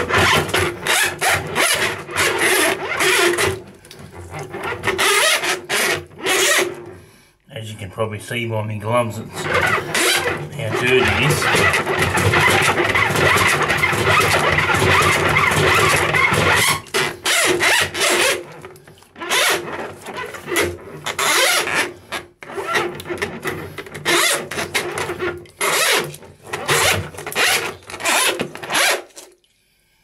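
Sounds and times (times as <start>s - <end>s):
drain auger cable scraping and rattling: 0.0s - 7.0s, 9.2s - 29.3s.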